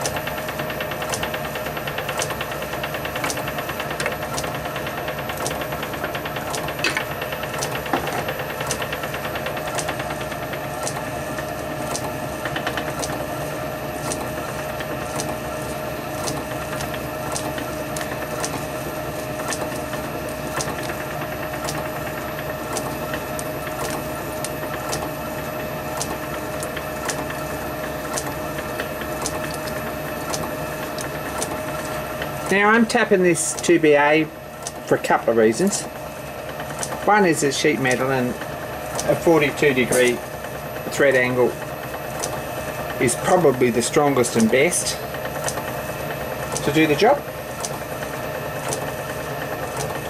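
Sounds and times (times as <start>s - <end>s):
metal lathe humming: 0.0s - 50.0s.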